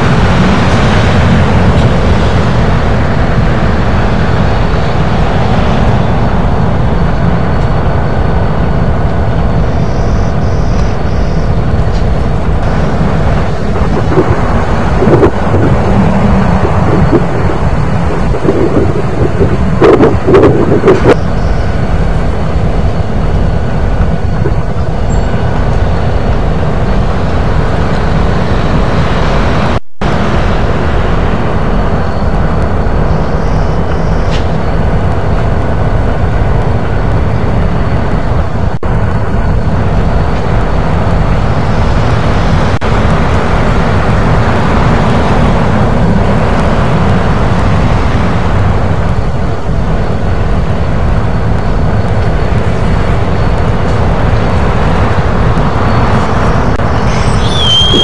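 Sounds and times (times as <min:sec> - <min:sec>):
low outdoor rumbling: 0:00.0 - 0:58.0.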